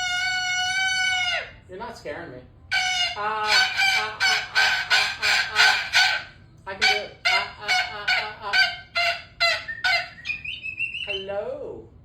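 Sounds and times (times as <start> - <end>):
parrot screaming harsh calls: 0.0 - 1.7, 2.7 - 11.2.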